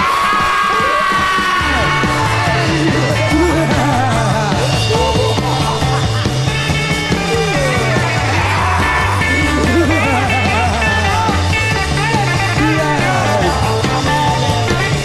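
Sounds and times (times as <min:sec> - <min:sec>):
rock song with singing and guitar: 0:00.0 - 0:15.0.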